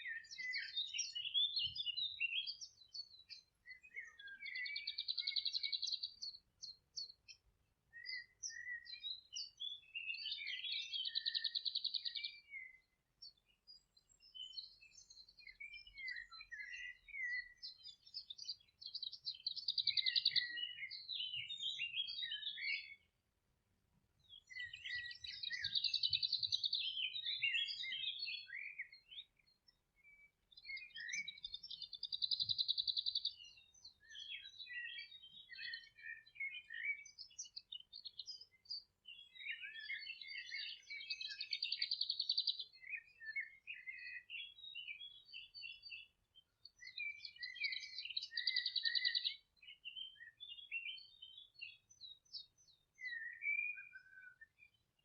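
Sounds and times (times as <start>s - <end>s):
songbirds singing with trills: 0.0s - 55.0s.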